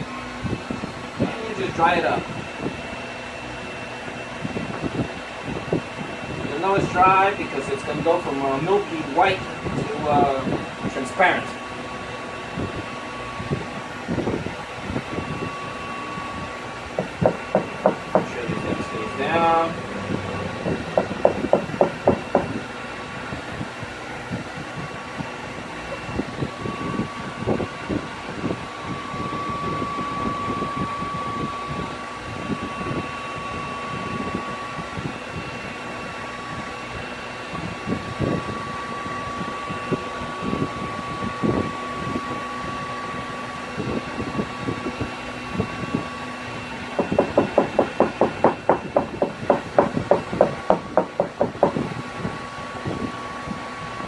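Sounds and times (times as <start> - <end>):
heat gun whining: 0.0 - 54.0.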